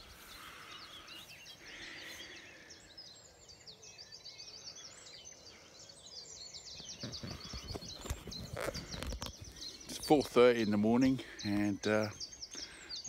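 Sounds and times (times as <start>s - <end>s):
birds singing: 0.0s - 13.0s.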